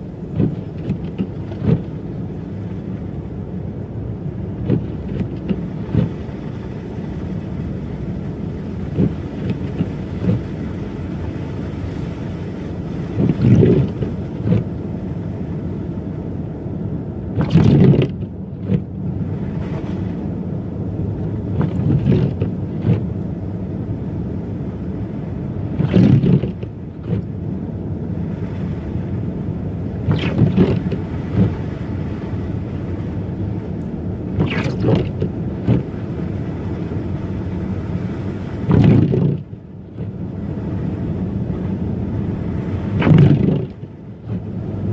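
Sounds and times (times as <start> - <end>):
rumble of tyres and engine: 0.0 - 44.9.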